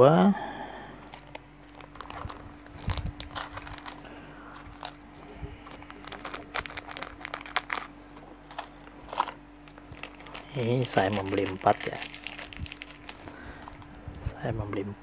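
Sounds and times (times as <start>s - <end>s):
faint steady hum: 0.0s - 15.0s
plastic bag crinkling: 1.0s - 14.0s.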